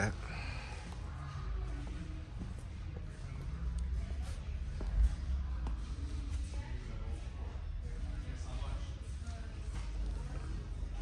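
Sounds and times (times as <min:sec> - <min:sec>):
faint music: 0:00.0 - 0:11.0
murmur of distant voices: 0:00.0 - 0:11.0.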